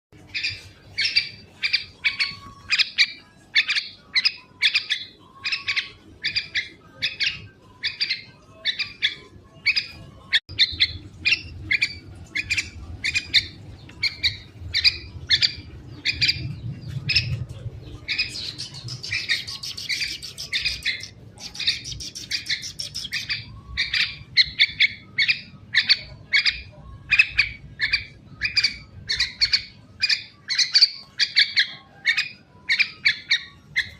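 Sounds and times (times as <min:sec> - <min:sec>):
bird chirping: 0:00.2 - 0:33.9.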